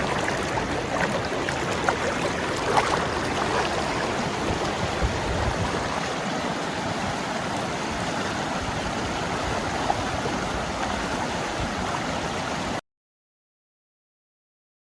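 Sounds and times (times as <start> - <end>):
river water flowing: 0.0 - 12.8.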